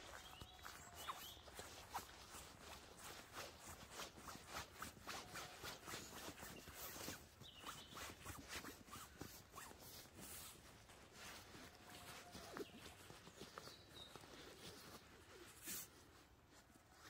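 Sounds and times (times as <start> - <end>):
fabric rustling: 0.0 - 17.0.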